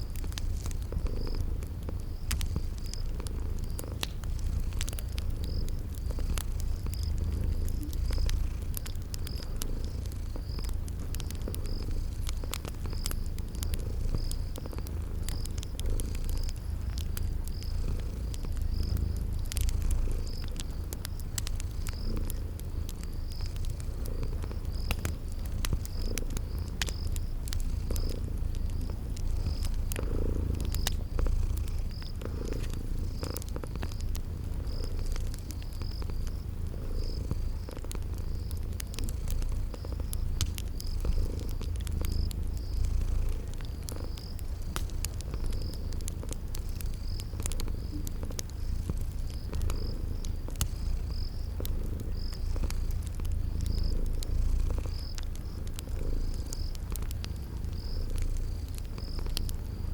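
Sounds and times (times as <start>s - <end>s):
cat purring: 0.0s - 59.9s
cricket chirping: 0.0s - 59.9s
wood fire crackling: 0.0s - 59.9s.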